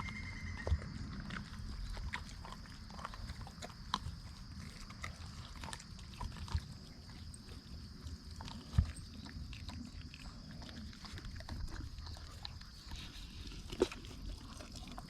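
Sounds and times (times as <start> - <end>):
bones crunching while chewed: 0.0 - 15.0
wet tearing and gnawing: 1.2 - 15.0.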